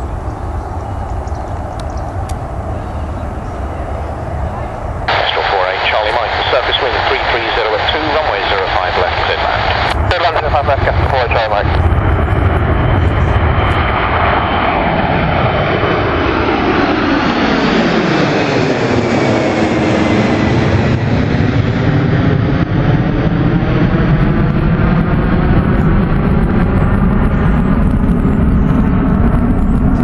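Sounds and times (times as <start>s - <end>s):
jet airliner engines passing: 0.0s - 30.0s.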